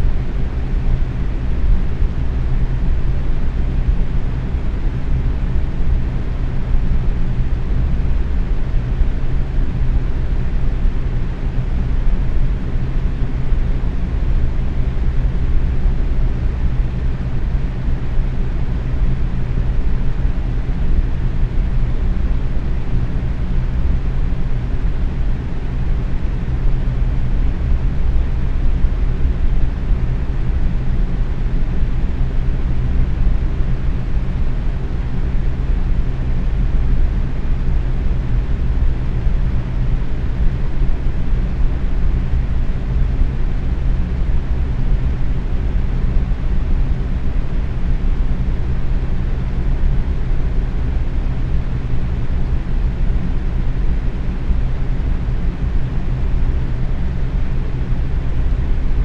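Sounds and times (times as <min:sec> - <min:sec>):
box fan running: 0:00.0 - 0:59.0.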